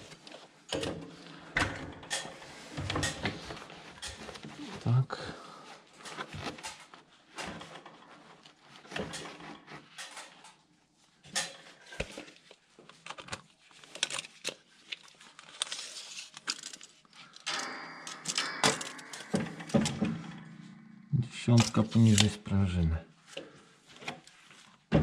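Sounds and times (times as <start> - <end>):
tools and parts clattering: 0.0 - 4.8, 5.9 - 22.4.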